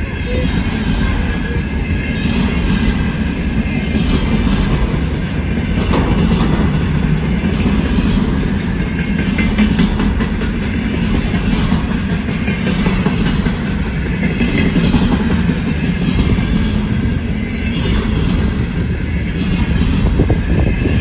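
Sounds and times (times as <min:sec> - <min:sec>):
train wheels rumbling on rail: 0:00.0 - 0:21.0
wheels clicking over track: 0:00.0 - 0:21.0.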